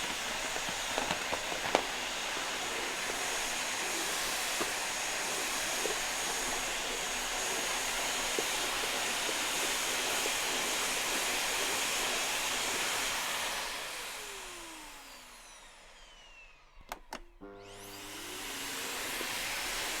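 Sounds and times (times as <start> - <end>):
vacuum cleaner motor running: 0.0 - 20.0.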